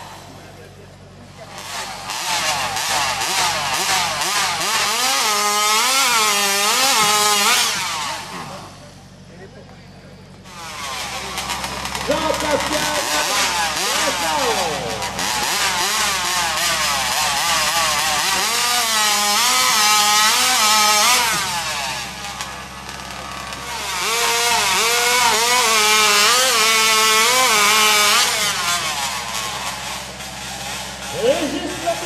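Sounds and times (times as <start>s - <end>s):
chainsaw cutting timber: 0.0s - 9.0s, 10.4s - 32.0s.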